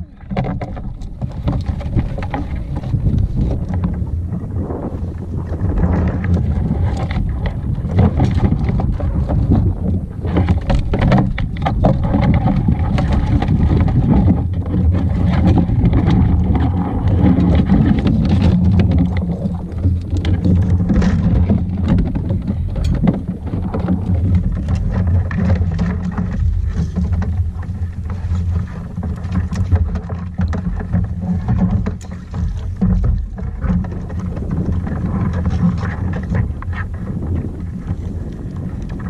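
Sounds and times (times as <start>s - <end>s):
water splashing around a kayak: 0.0s - 39.0s
wind buffeting microphone: 0.0s - 39.0s.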